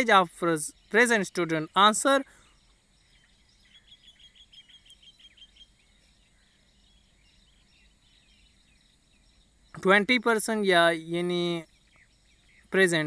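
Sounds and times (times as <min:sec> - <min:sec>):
bird chirping: 0:00.0 - 0:13.0
faint room hiss: 0:00.0 - 0:13.0.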